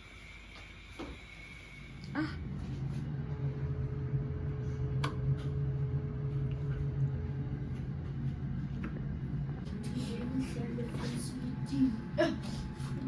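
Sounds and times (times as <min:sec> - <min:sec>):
faint whine: 0:00.0 - 0:13.0
low mechanical hum: 0:00.0 - 0:13.0.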